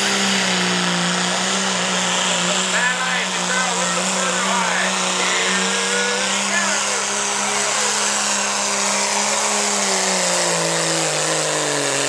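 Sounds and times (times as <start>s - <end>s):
diesel truck engine revving hard: 0.0s - 12.0s.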